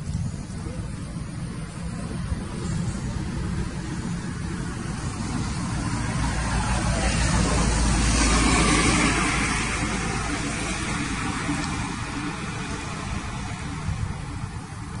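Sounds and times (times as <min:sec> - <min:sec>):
passing vehicle rumble: 0:00.0 - 0:15.0.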